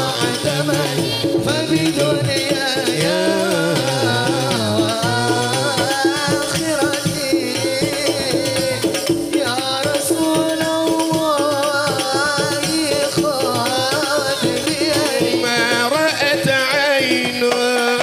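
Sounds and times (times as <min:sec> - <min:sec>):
frame drums beating: 0:00.0 - 0:18.0
men singing devotional song: 0:00.0 - 0:18.0.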